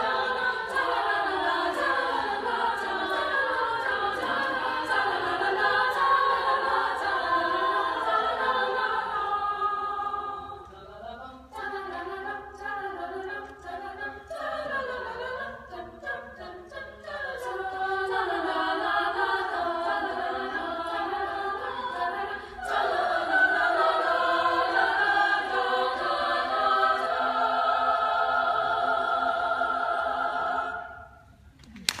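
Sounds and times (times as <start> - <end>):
women's choir singing: 0.0 - 31.5.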